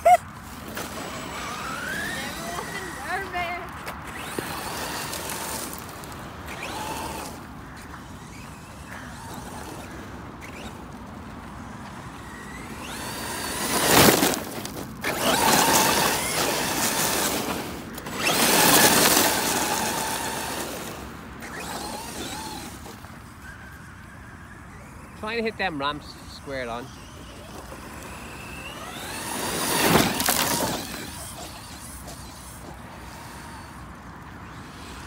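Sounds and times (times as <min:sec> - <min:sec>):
electric motor whining: 0:00.5 - 0:35.0.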